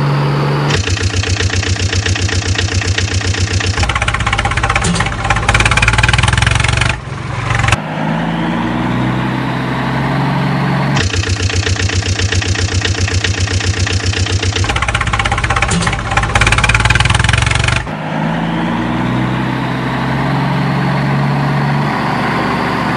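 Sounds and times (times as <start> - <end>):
engine revving and idling: 0.0 - 22.9.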